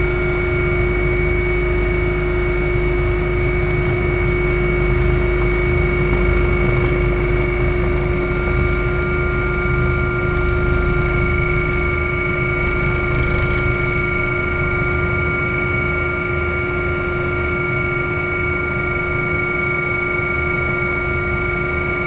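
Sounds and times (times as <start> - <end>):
helicopter rotor and engine rumble: 0.0 - 22.0
high whining turbine tones: 0.0 - 22.0.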